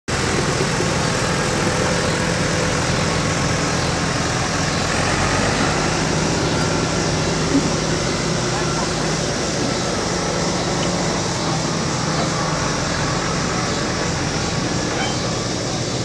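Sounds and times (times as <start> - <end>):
continuous noise: 0.1 - 16.0
engine idling: 0.1 - 16.0.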